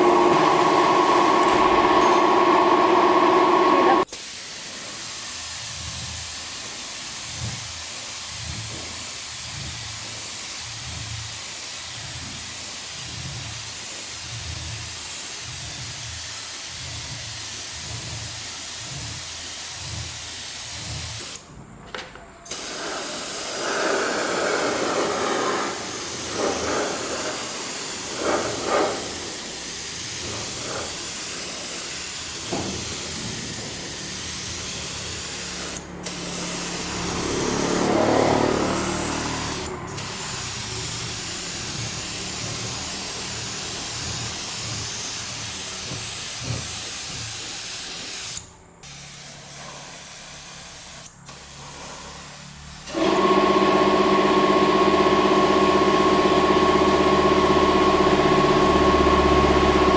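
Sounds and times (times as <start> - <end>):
compressed air hissing spray: 4.0 - 21.4, 22.5 - 53.3.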